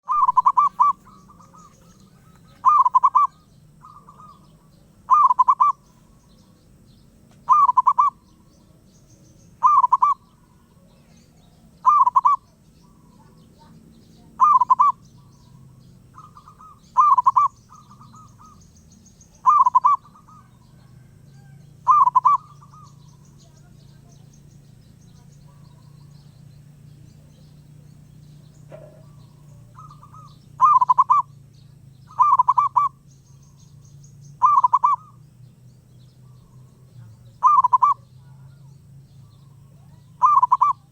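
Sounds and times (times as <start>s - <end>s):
dove cooing: 0.0s - 8.9s, 9.5s - 33.8s, 34.4s - 35.5s, 36.2s - 40.9s.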